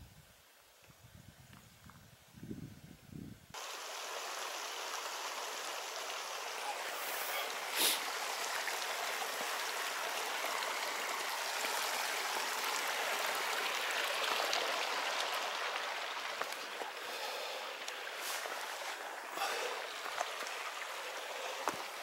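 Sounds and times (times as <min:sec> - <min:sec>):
creek running over rocks: 0:03.6 - 0:22.0.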